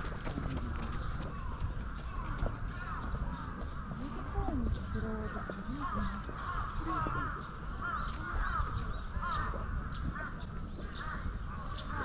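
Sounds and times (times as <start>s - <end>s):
crows cawing: 0.6s - 12.0s.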